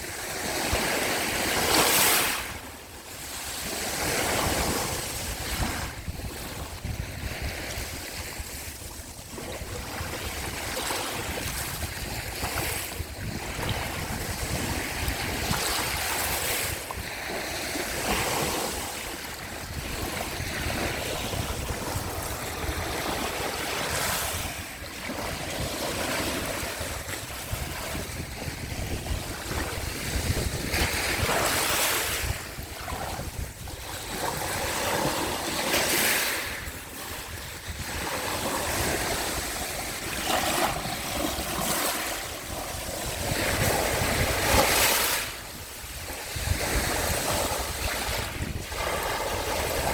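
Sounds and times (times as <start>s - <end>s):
small waves washing onto shore: 0.0s - 49.9s
wind rumbling on microphone: 0.0s - 49.9s.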